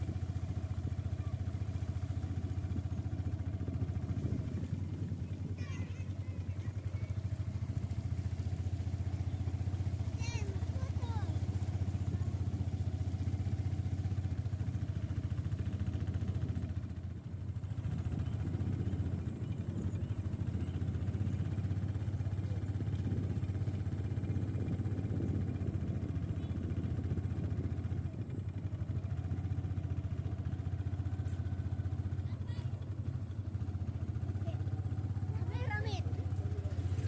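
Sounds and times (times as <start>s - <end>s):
engine humming: 0.0s - 37.0s.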